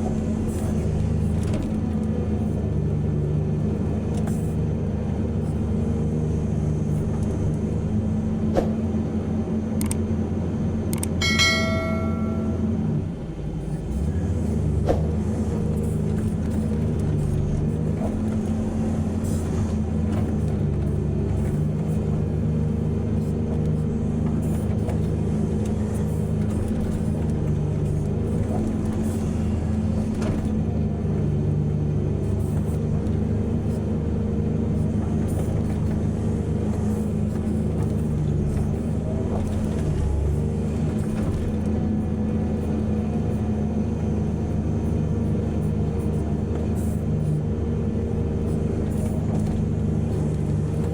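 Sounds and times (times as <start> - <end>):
heavy diesel engine under load: 0.0 - 50.9.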